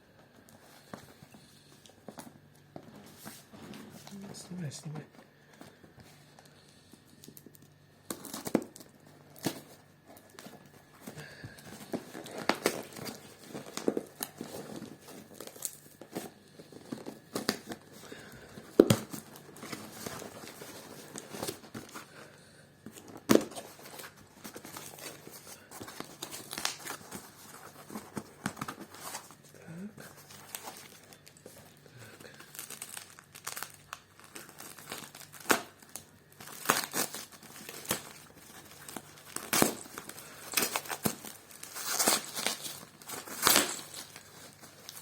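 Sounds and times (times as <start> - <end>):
packaging rustling and crinkling: 0.3 - 45.0.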